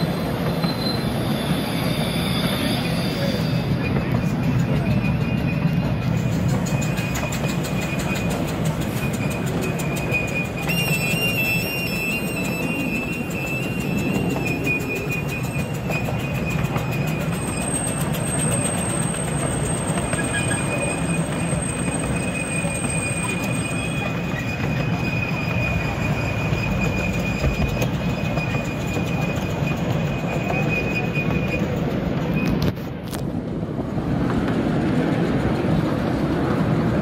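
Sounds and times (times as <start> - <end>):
wheels squealing on curve: 0.0 - 33.0
wheels rumbling on rails: 0.0 - 37.0.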